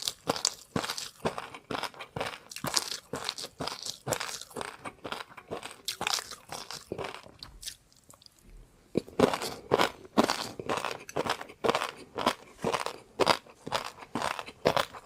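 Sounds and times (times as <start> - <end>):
crunching and chewing food: 0.0 - 15.0.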